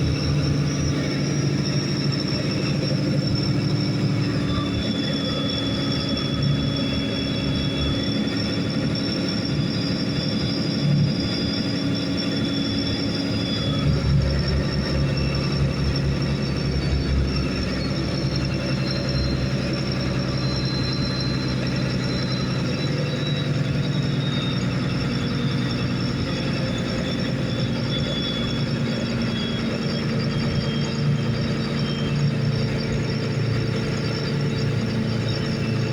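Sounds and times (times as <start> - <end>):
boat engine drone: 0.0 - 35.9
high-pitched whine: 0.0 - 35.9.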